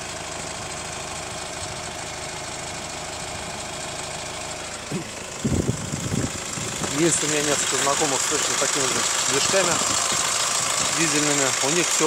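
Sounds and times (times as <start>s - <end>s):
diesel engine idling with knock: 0.0s - 12.0s.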